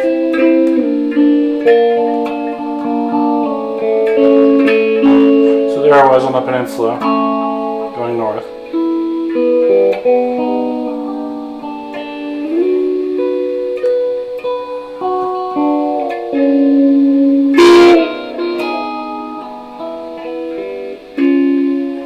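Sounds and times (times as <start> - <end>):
electric guitar notes and chords: 0.0 - 22.0.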